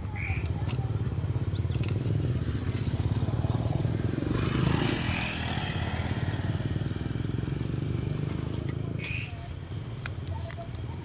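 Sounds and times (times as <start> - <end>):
small engine running: 0.6 - 10.9.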